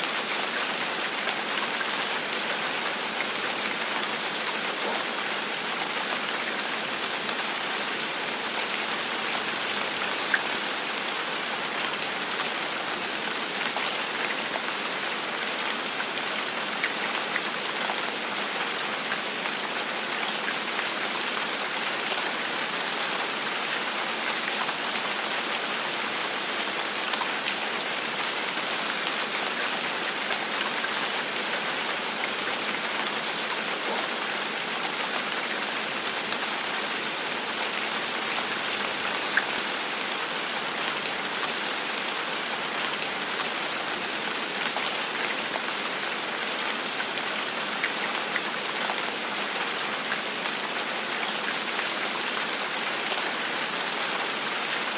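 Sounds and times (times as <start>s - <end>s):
gentle rain hiss: 0.0s - 54.9s.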